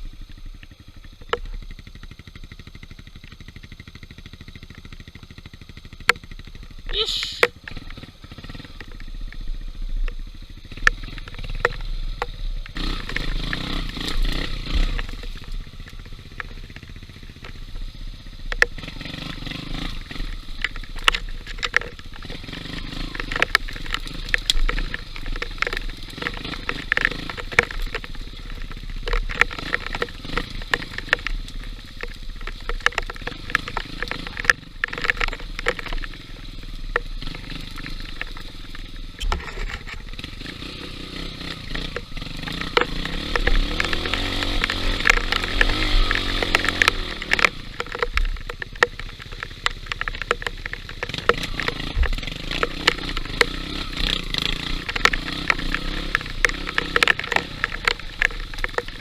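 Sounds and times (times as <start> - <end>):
motorcycle engine running: 0.0 - 59.0
sharp knocks and rattles: 3.8 - 59.0.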